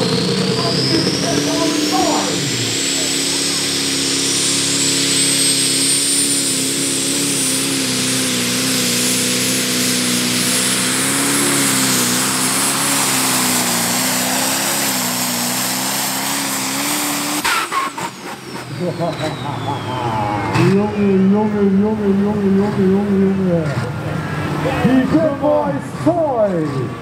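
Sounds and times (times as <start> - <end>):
diesel engine running flat out: 0.0 - 27.0
high turbo whine: 0.0 - 27.0.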